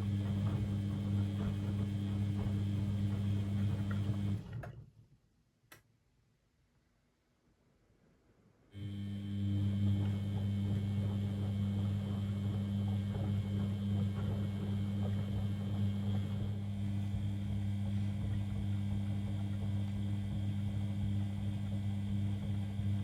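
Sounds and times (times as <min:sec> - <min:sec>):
washing machine deep hum: 0:00.0 - 0:04.9, 0:08.8 - 0:23.0.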